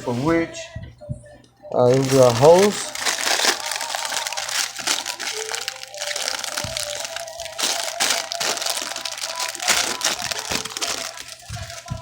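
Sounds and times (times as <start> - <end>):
background music: 0.0 - 12.0
packaging crinkling: 1.9 - 12.0.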